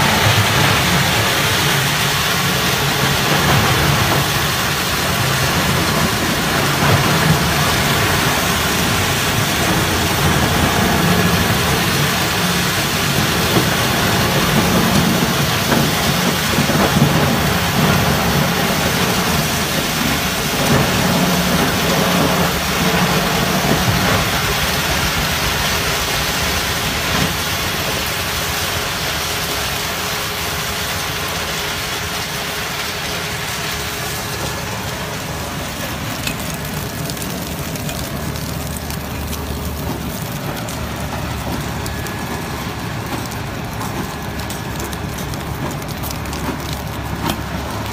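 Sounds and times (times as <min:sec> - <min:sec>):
wood chips pouring onto pile: 0:00.0 - 0:47.9
wood crusher chipping pallets: 0:00.0 - 0:47.9.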